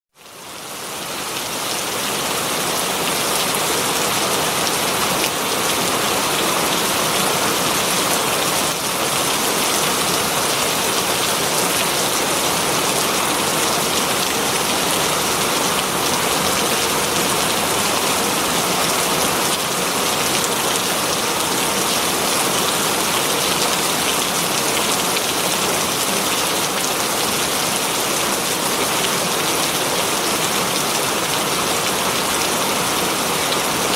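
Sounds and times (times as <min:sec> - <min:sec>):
heavy rain on leaves: 0:00.1 - 0:33.9.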